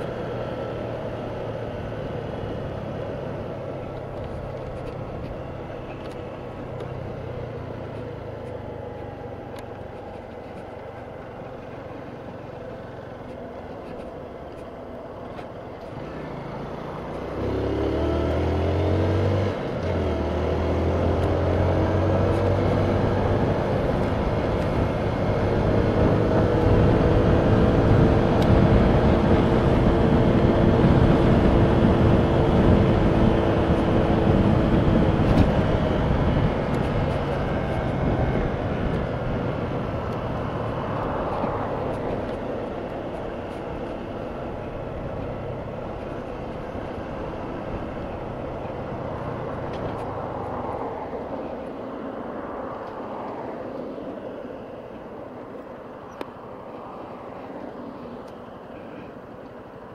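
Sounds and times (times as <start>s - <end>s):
motorcycle engine accelerating: 0.0s - 51.6s.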